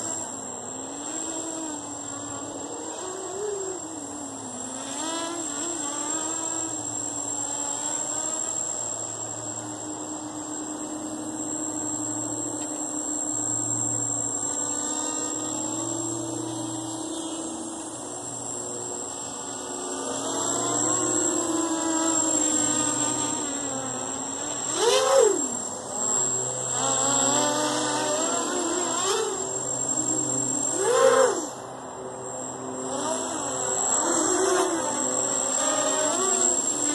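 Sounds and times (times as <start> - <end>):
high-pitched whine: 0.0 - 36.9
quadcopter motors buzzing: 0.0 - 36.9.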